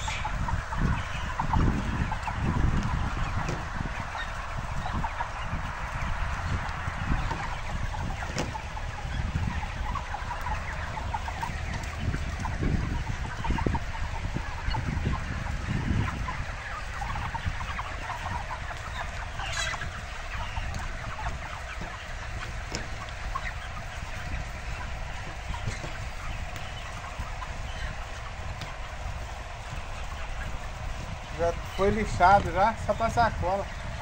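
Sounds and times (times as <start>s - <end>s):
flock of chickens clucking: 0.0s - 34.0s.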